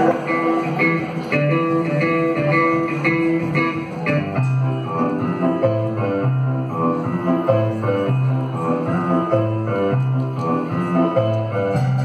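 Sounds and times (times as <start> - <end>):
bass guitar line: 0.0 - 12.0
guitar: 0.0 - 12.0
live rock band playing: 0.0 - 12.0.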